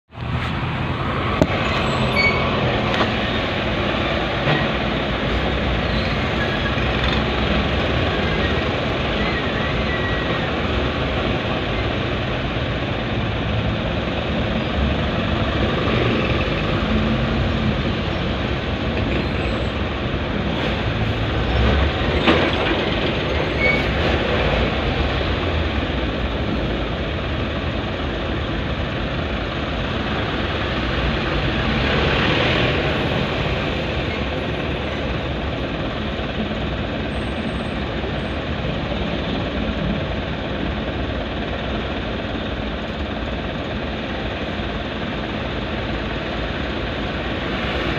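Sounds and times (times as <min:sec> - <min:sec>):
car and truck engines running: 0:00.1 - 0:47.9.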